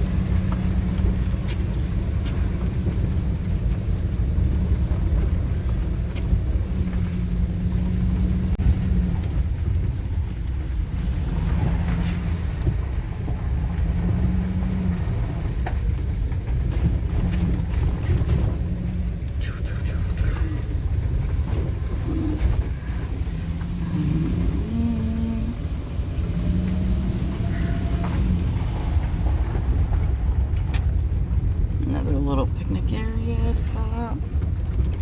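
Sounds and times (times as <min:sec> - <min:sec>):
low hum: 0:00.0 - 0:33.2
van engine and road rumble: 0:00.0 - 0:35.0.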